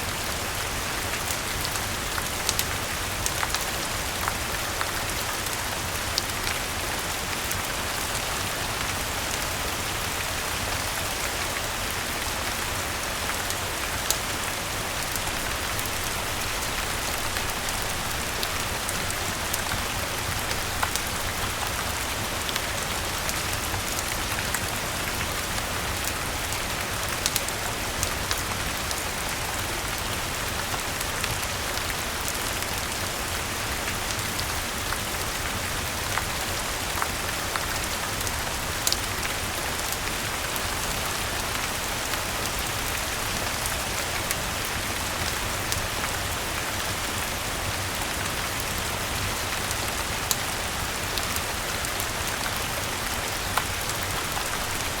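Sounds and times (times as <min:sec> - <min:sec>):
rainfall hiss: 0:00.0 - 0:55.0.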